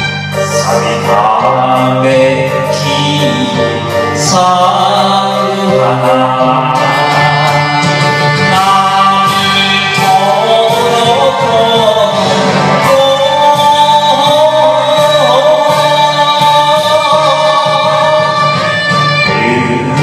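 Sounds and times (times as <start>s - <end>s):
band accompaniment with bass line: 0.0s - 20.0s
person singing wavering notes: 0.0s - 20.0s.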